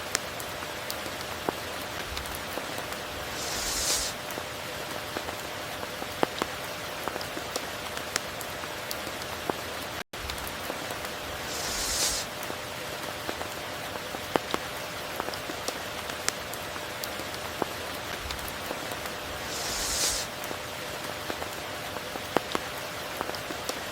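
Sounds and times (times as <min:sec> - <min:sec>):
raindrops ticking nearby: 0:00.0 - 0:03.5, 0:04.1 - 0:23.9
steady rain hiss: 0:00.0 - 0:23.9.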